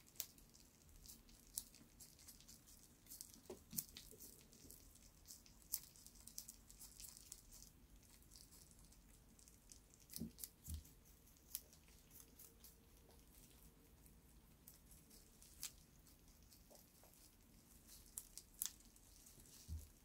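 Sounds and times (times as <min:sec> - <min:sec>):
rabbit chewing leaf: 0:00.0 - 0:20.0.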